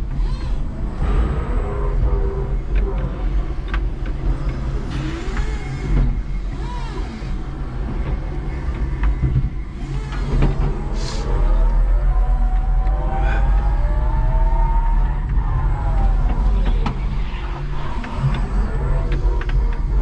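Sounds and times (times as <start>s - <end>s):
forklift motors whining: 0.0s - 20.0s
steady low hum: 0.0s - 20.0s.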